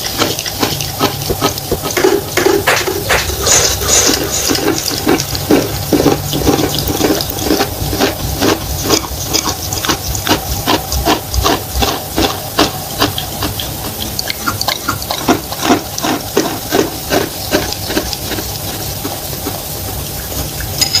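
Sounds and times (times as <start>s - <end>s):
wet chewing crunches: 0.0s - 21.0s.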